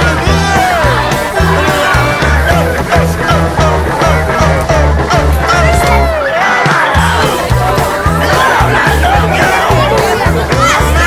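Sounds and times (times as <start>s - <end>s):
music with pulsing bass line: 0.0s - 11.0s
voices: 0.0s - 11.0s.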